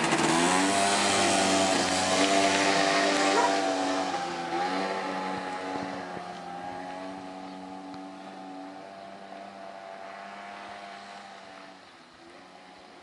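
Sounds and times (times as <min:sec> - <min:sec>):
moped engine pulling away: 0:00.0 - 0:13.0.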